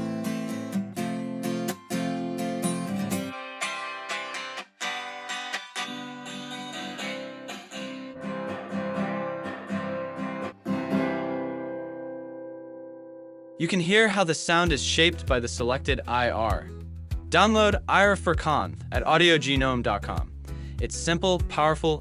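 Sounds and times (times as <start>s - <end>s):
guitar with reverb: 0.0s - 18.4s.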